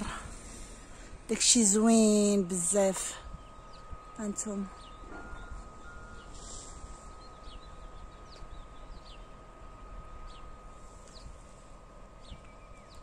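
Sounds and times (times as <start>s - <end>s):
low outdoor background rumble: 0.0s - 13.0s
small birds chirping: 0.6s - 13.0s.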